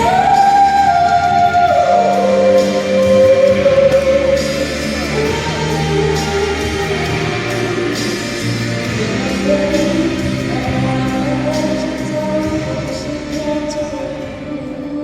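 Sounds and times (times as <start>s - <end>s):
instrumental accompaniment: 0.0s - 14.9s
woman singing: 0.0s - 15.0s.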